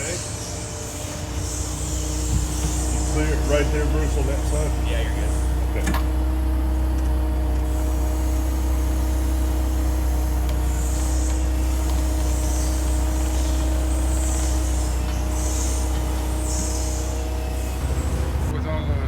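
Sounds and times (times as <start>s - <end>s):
forklift engine idling: 0.0s - 19.0s.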